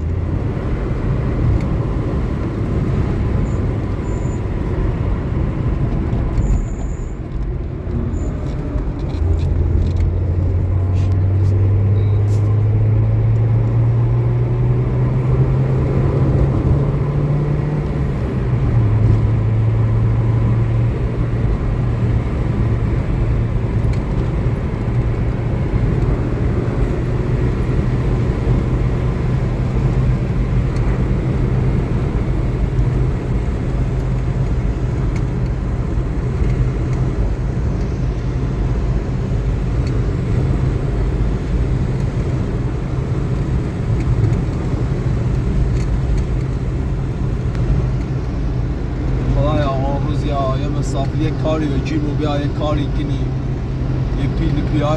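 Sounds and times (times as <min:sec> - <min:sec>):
car engine droning: 0:00.0 - 0:54.9
road noise: 0:00.0 - 0:54.9.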